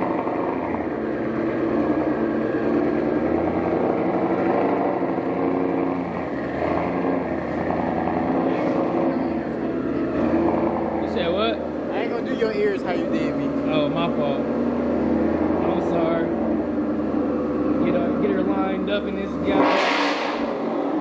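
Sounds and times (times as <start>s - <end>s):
car engine and exhaust running: 0.0s - 21.0s.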